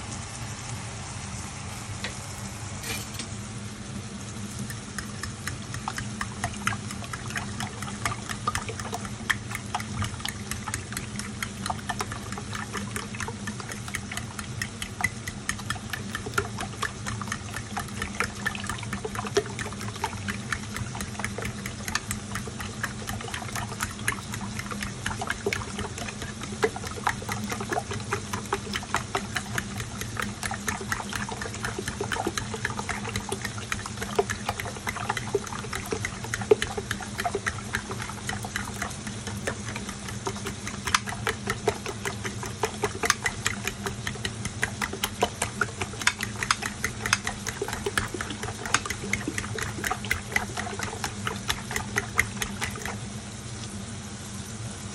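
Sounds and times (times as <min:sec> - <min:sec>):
egg sloshing: 0:04.4 - 0:53.2.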